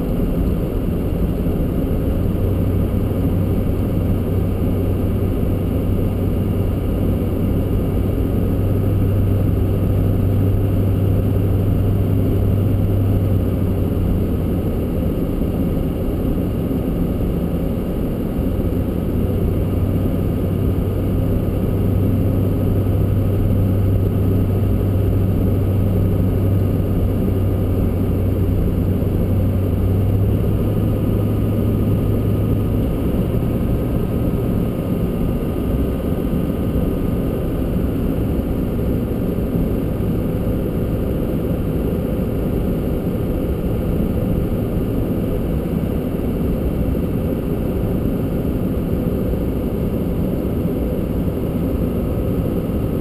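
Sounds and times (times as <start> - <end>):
low engine hum: 0.0 - 53.0.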